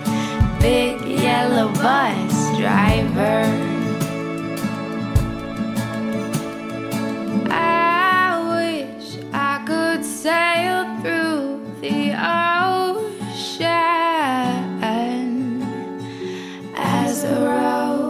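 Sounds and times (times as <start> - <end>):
woman singing: 0.0 - 4.1, 7.5 - 18.0
acoustic guitar: 0.0 - 18.0.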